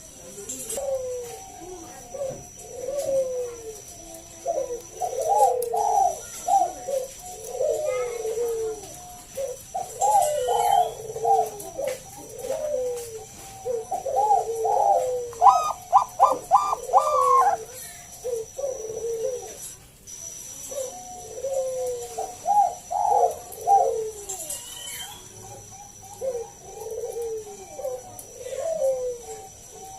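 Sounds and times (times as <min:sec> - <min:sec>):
dove cooing: 0:00.0 - 0:19.8, 0:20.5 - 0:29.9.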